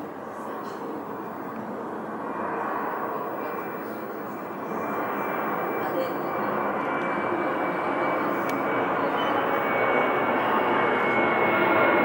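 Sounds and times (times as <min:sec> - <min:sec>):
jet engines passing overhead: 0:00.0 - 0:12.0.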